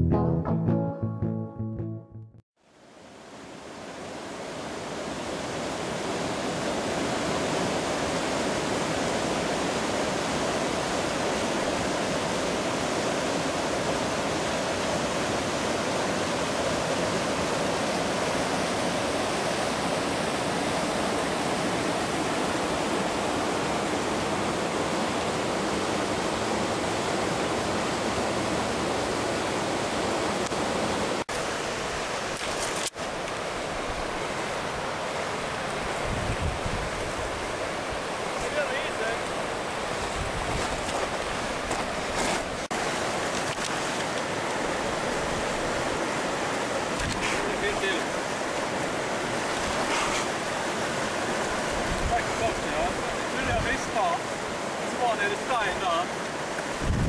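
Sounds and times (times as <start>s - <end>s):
river rapids rushing over rocks: 3.2s - 36.1s, 36.9s - 56.9s.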